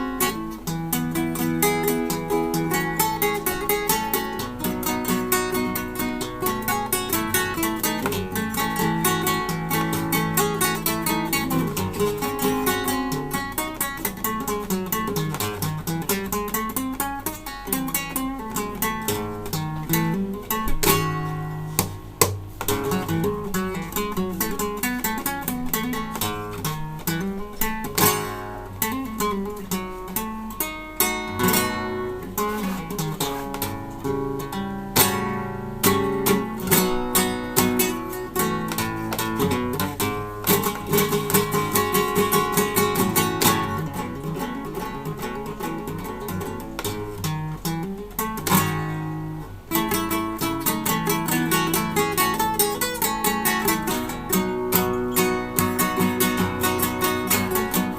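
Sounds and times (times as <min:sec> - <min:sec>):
flamenco guitar picked runs: 0:00.0 - 0:57.9
strummed guitar chords: 0:00.0 - 0:57.9.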